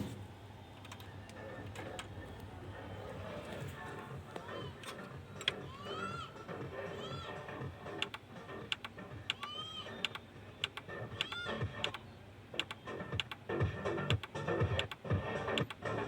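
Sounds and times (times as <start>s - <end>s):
music through receiver: 0.0s - 16.0s.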